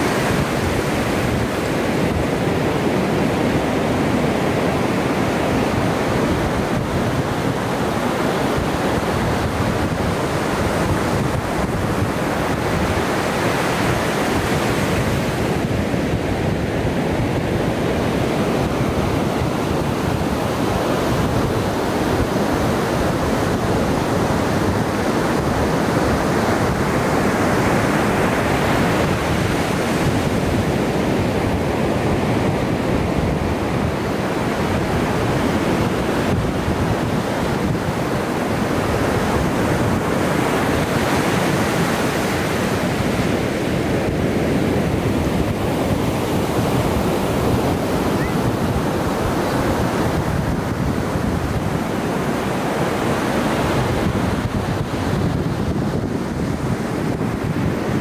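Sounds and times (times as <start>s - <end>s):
ocean surf breaking: 0.0s - 58.0s
wind on microphone: 0.0s - 58.0s.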